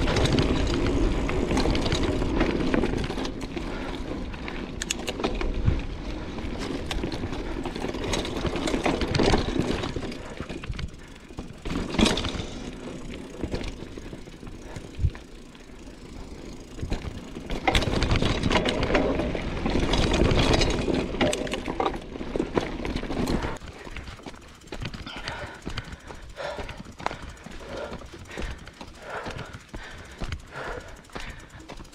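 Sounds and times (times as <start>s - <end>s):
bike knocking and rattling: 0.0s - 31.9s
bike tyres rolling on dirt: 0.0s - 31.9s.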